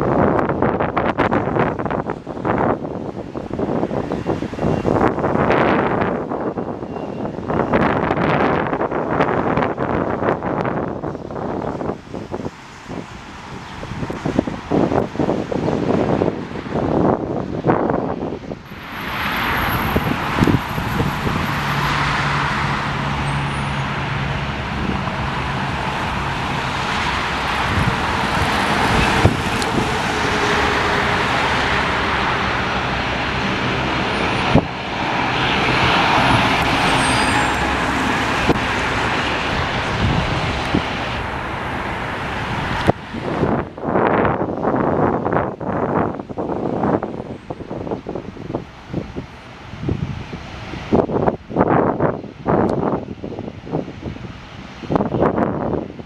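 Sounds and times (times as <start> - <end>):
jet airliner engine rushing: 0.0 - 56.0.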